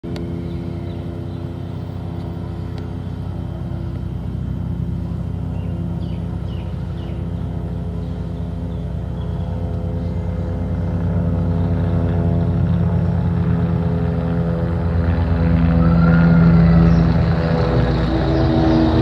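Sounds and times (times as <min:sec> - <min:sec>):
helicopter running: 0:00.0 - 0:19.0.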